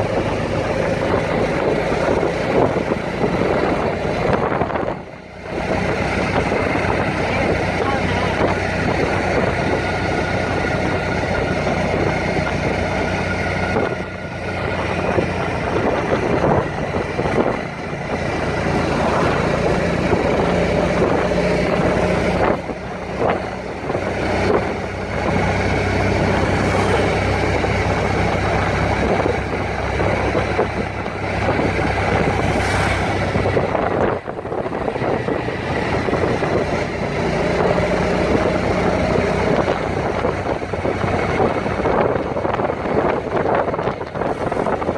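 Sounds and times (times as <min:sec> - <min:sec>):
road noise: 0:00.0 - 0:44.9
vehicle engine running: 0:00.0 - 0:44.9.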